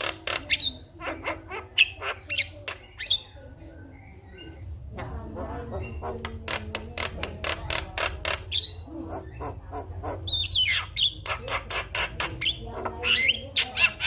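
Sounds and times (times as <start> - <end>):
bird clicks and chatter: 0.0 - 3.4, 6.0 - 14.0.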